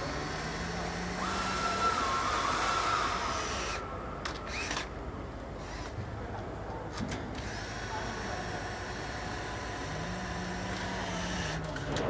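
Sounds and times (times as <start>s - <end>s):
factory background noise: 0.0s - 12.0s.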